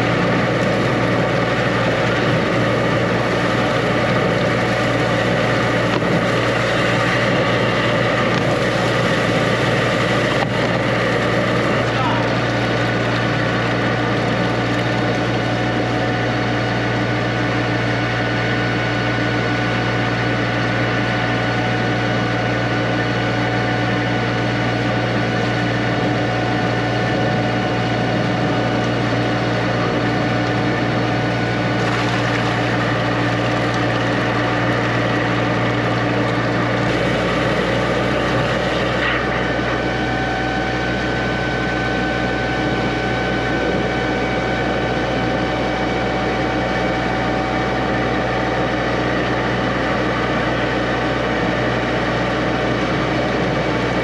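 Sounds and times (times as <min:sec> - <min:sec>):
drain jetter engine and pump hum: 0:00.0 - 0:54.0.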